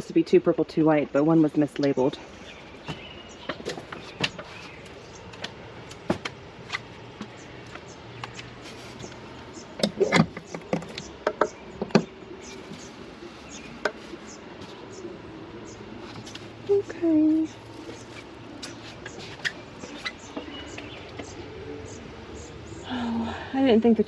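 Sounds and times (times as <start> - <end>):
clicks knocks and rustles of plants: 0.8 - 22.0.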